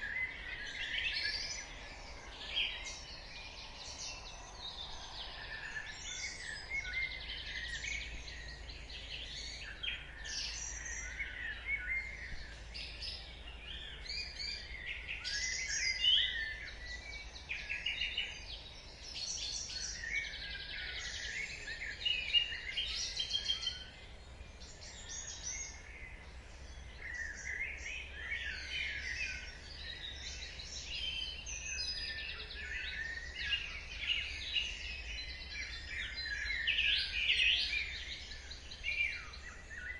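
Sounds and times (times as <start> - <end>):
many birds singing: 0.0 - 39.9.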